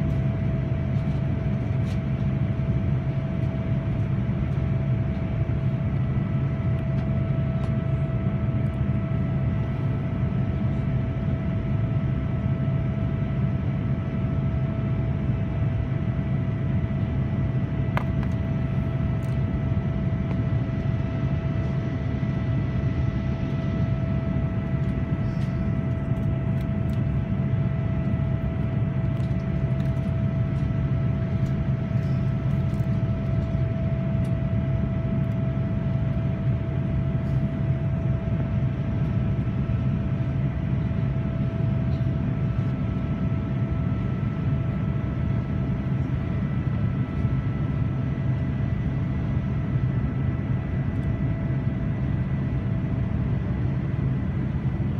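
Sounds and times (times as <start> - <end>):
jet engine rumble and airflow: 0.0 - 54.9
steady cabin hum: 0.0 - 54.9.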